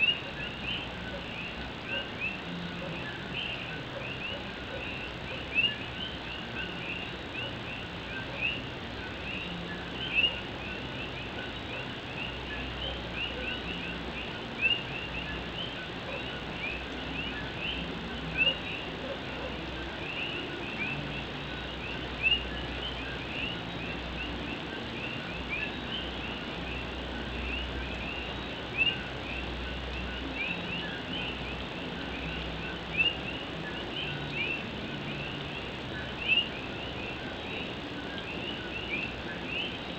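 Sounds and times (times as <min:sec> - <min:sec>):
frogs chirping: 0:00.0 - 0:39.9
steady background hiss: 0:00.0 - 0:39.9.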